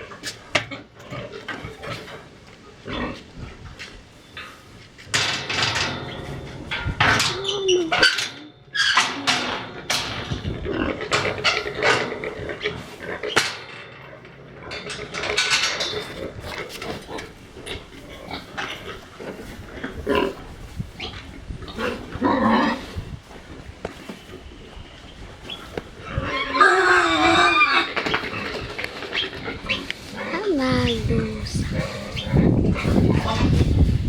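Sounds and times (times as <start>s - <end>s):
farm animals calling: 0.0s - 13.9s, 14.5s - 33.8s.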